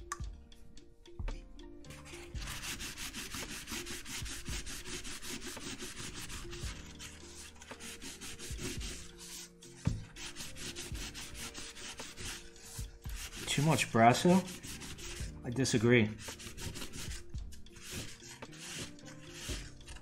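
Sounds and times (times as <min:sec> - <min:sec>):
paper towel rubbing on brass: 0:02.0 - 0:15.3, 0:16.0 - 0:17.2, 0:17.8 - 0:20.0.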